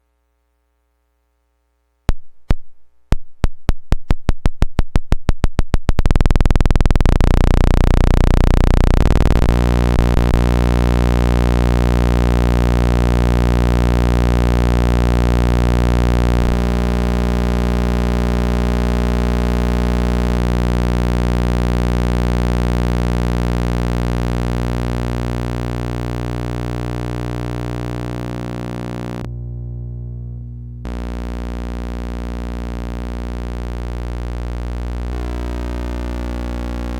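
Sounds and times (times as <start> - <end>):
oscillator clicks and buzzing tone: 2.1 - 36.9.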